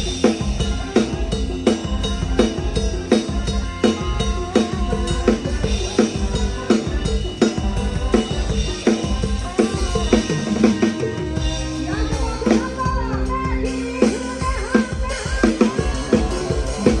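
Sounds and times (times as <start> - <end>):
drum kit playing a steady beat: 0.0 - 17.0
melody line with pitch bends: 0.0 - 17.0.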